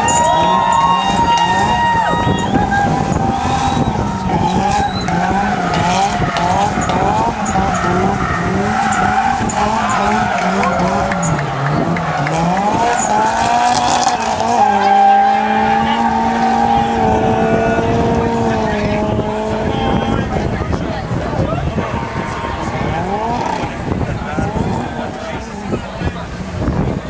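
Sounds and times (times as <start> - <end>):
tyres squealing: 0.0 - 25.7
car engine revving: 0.0 - 27.0.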